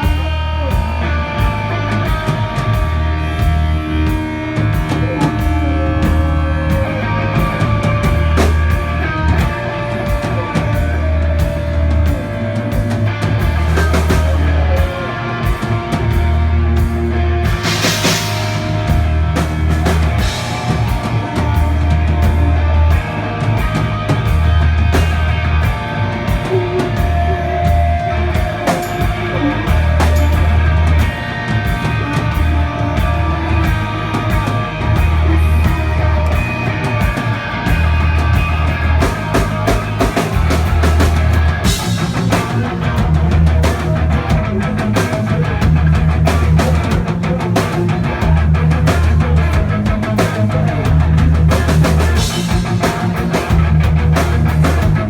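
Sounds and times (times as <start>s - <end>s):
live rock band: 0.0s - 55.0s.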